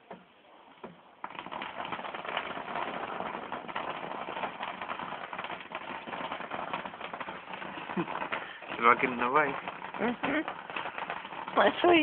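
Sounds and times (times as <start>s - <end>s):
ground firework crackling: 0.0s - 12.0s.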